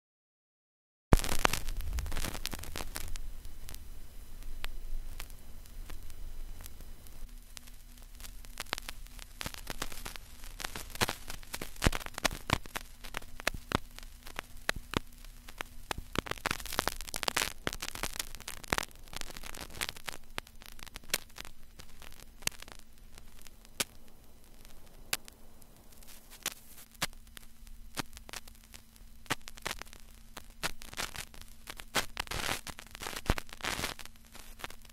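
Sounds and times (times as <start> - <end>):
faint steady hum: 1.1 - 34.9
vinyl crackles and pops: 1.1 - 34.9
vinyl record hiss: 1.1 - 34.9.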